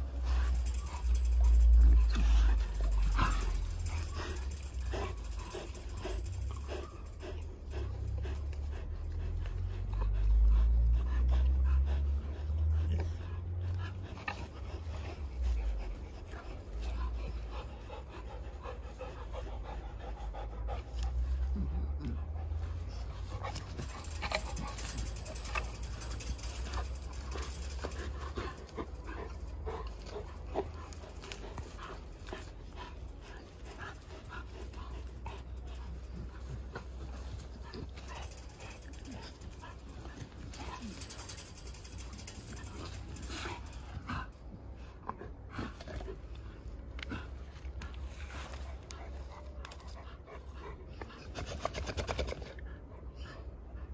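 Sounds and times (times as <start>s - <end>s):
dogs panting: 0.0s - 53.9s.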